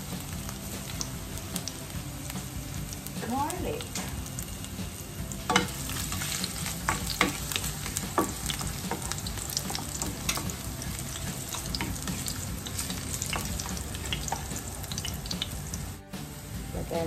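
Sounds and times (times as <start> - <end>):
spatula stirring against pan: 0.0 - 16.0
garlic sizzling in oil: 0.0 - 17.0.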